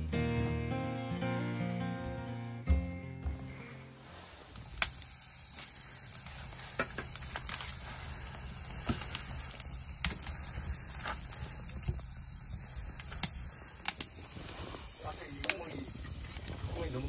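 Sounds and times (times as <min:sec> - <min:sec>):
firewood crackling: 0:01.8 - 0:17.0
steady hiss: 0:01.8 - 0:17.0
fire pops: 0:02.7 - 0:17.0.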